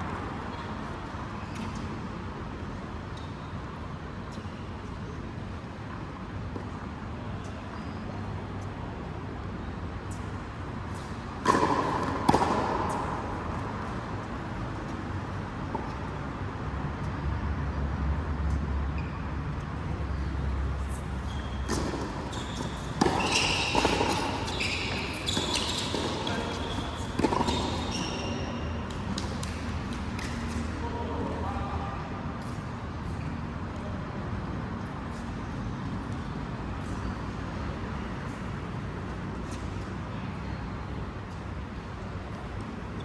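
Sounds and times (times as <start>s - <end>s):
low hall noise: 0.0s - 43.0s.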